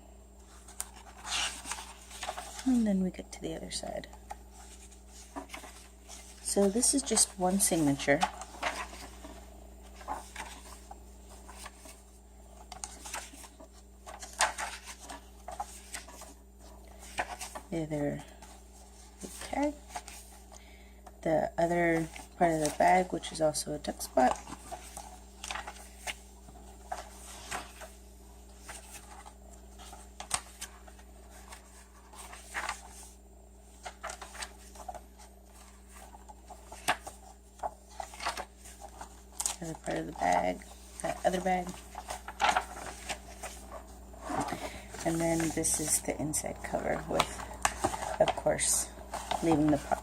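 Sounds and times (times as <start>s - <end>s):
paper pages rustling: 0.4s - 3.1s, 3.7s - 20.6s, 21.6s - 50.0s.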